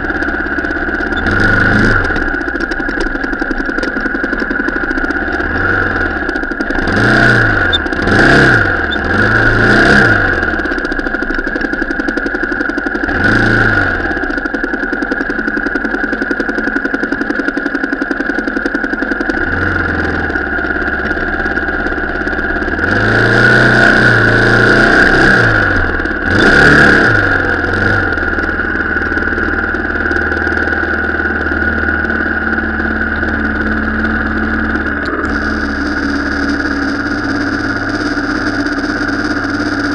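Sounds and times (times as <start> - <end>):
car engine revving: 0.0 - 11.7, 12.4 - 14.5, 19.3 - 39.9.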